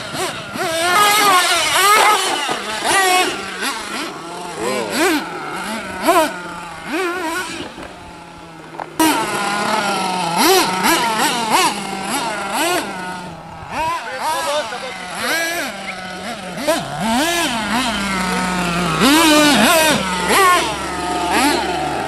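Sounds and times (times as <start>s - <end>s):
small nitro engine revving: 0.0s - 22.0s.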